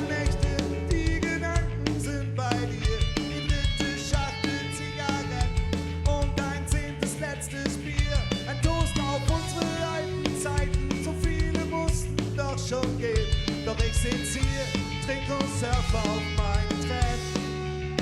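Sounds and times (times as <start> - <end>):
ska punk band playing live: 0.0 - 18.0.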